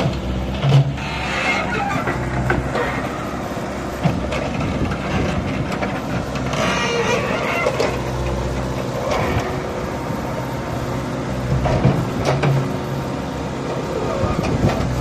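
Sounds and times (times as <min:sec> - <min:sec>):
digger diesel engine running: 0:00.0 - 0:15.0.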